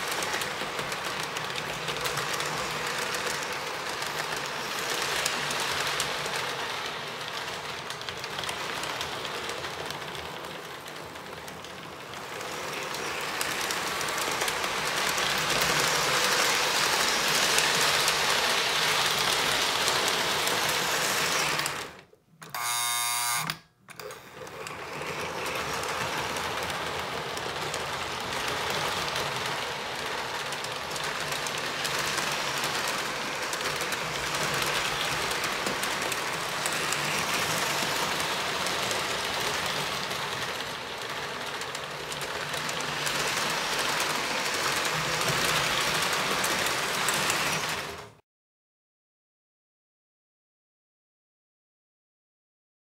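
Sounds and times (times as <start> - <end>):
wheels rattling on rails: 0.0 - 22.0, 24.4 - 48.2
toy train motors whirring: 0.0 - 48.2.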